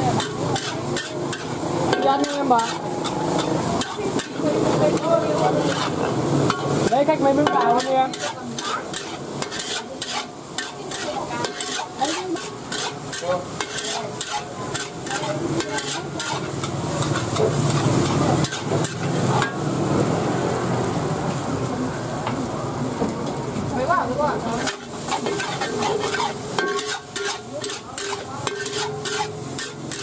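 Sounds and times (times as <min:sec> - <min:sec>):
frying sizzle: 0:00.0 - 0:30.0
metal spatula clanking on wok: 0:00.1 - 0:19.7, 0:24.5 - 0:30.0.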